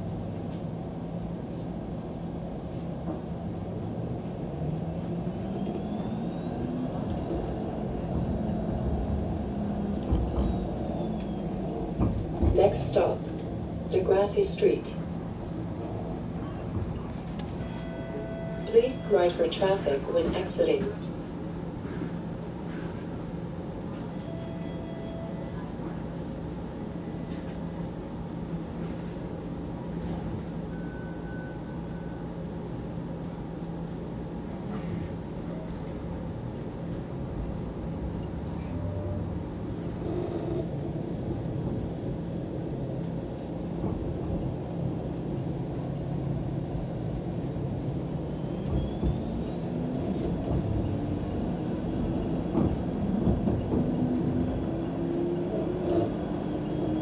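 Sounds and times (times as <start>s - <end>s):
streetcar rumbling on rails: 0.0s - 57.0s.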